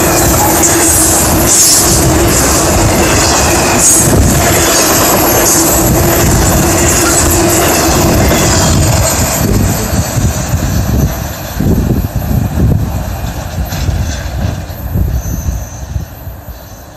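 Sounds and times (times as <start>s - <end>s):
freight train wheels on rails: 0.0s - 16.9s
gusty low rumble: 1.1s - 16.1s.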